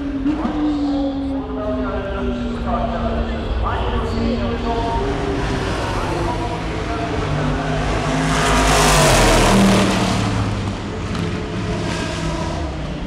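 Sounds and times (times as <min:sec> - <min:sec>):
race car passing at speed: 0:02.4 - 0:13.0.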